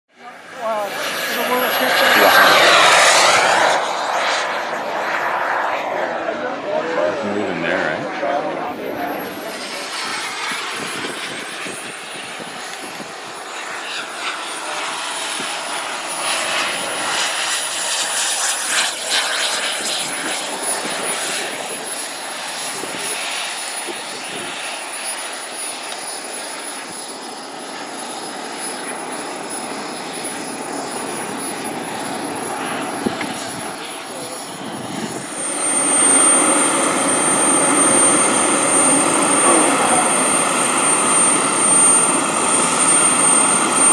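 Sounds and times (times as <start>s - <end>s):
model jet engine whining: 0.1s - 43.9s.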